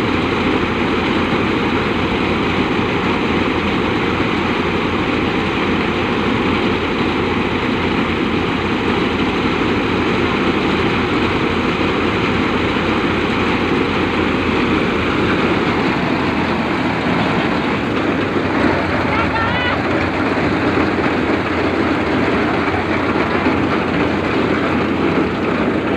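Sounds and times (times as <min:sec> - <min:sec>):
tractor engine and threshing machinery: 0:00.0 - 0:25.9.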